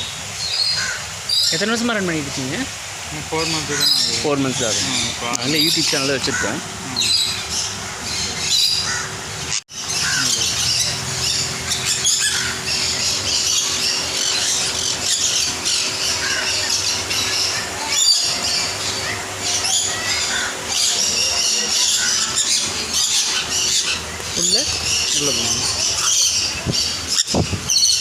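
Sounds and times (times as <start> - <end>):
parrots squawking and chattering: 0.4 - 28.0.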